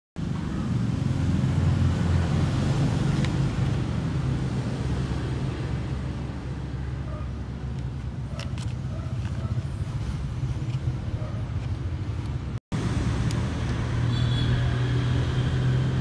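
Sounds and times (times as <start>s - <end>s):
road traffic rumble: 0.2s - 16.0s
vehicle engine running nearby: 0.2s - 16.0s.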